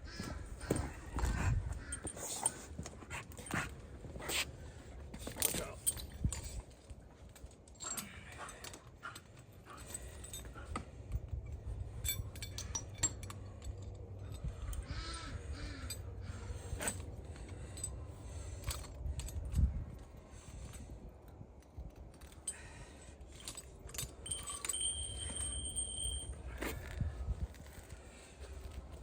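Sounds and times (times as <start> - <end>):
chain links clinking: 0.7 - 14.9, 15.5 - 21.0, 21.7 - 27.9.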